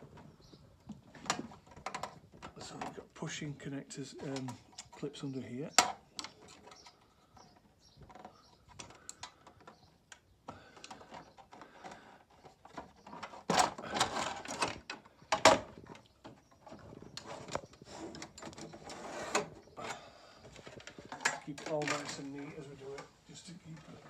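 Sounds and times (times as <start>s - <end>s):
plastic panels clicking and knocking: 0.1s - 3.2s, 5.6s - 19.6s, 20.4s - 24.0s.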